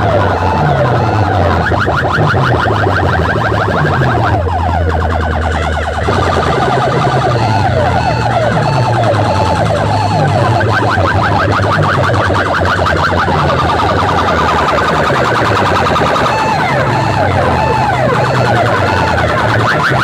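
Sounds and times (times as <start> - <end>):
heavy bass: 0.0 - 20.0
rising electronic chirps: 0.0 - 20.0
warbling siren tones: 0.0 - 20.0.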